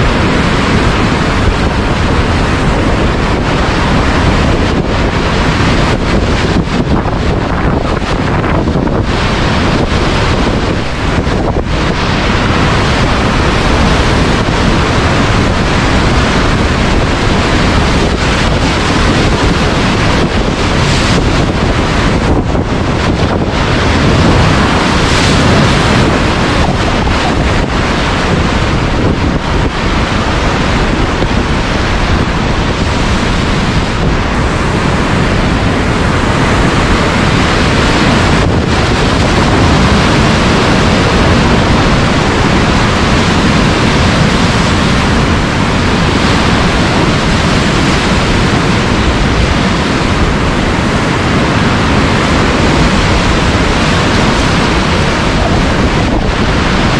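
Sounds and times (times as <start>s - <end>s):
waves splashing against raft: 0.0s - 56.9s
whitewater river rapids roaring: 0.0s - 56.9s.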